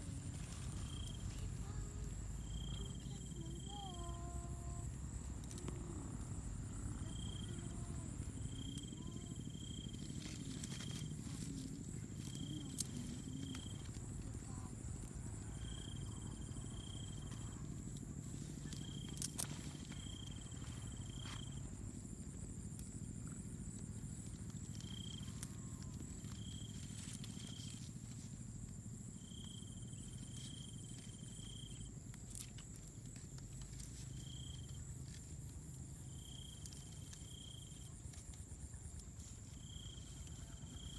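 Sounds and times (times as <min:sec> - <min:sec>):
insect high drone: 0:00.0 - 0:40.9.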